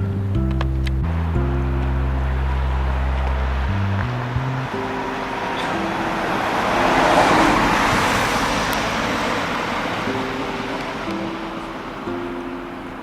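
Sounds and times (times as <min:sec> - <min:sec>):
vehicle passing by: 0:01.0 - 0:12.2.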